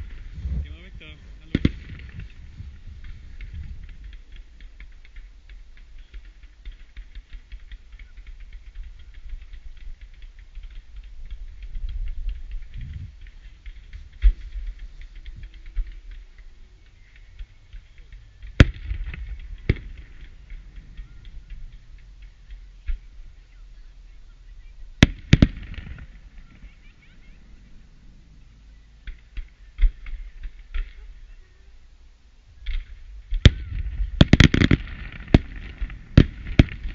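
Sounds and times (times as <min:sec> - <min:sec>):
fireworks sharp bangs: 0:00.0 - 0:31.8, 0:32.6 - 0:36.9
fireworks crackling pops: 0:00.0 - 0:36.9.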